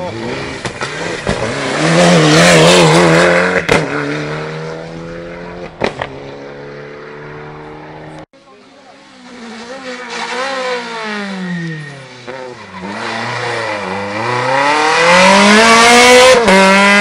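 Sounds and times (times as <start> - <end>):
rally car engine passing: 0.0 - 8.2, 9.0 - 17.0.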